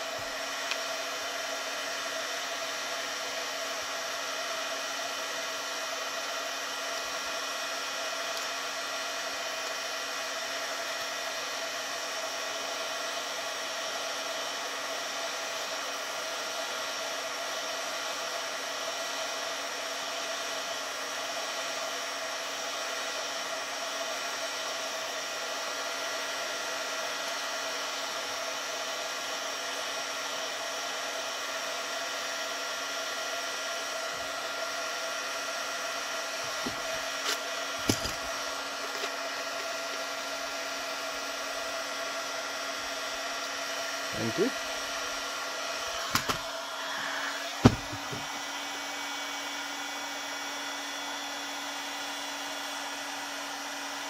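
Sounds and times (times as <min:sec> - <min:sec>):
heat gun fan whirring: 0:00.0 - 0:54.0.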